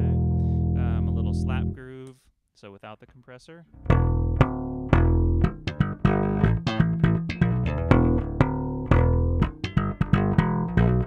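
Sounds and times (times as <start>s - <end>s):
bass guitar notes: 0.0s - 2.0s, 3.7s - 11.0s.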